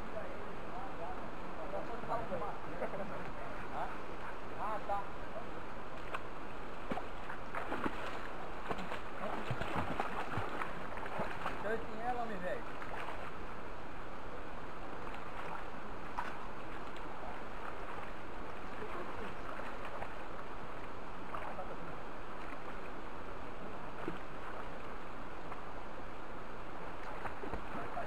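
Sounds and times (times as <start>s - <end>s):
people wading in water: 0.0s - 28.0s
shallow river flowing: 0.0s - 28.0s.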